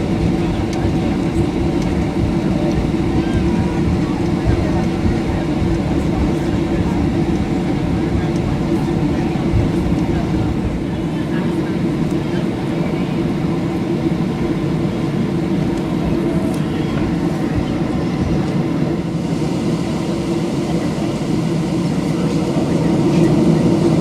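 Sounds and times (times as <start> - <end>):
jet engine and airflow noise: 0.0 - 24.0.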